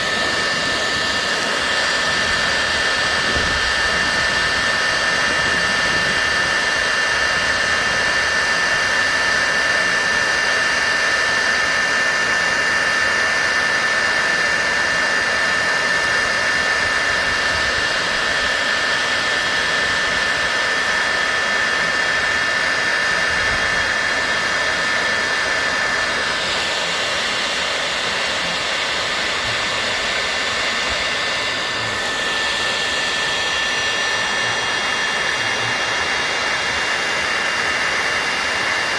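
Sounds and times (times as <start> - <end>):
hot air gun blowing: 0.0 - 38.9.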